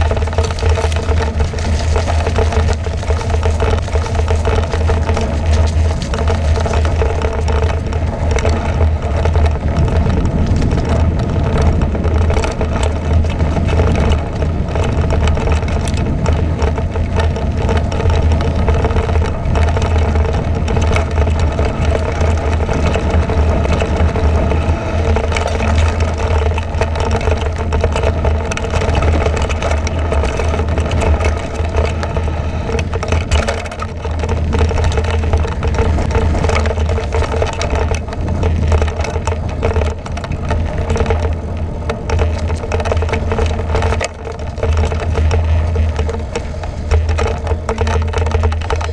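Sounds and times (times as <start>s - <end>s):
bike rattling and knocking: 0.0s - 48.9s
wind rumble on microphone: 0.0s - 48.9s.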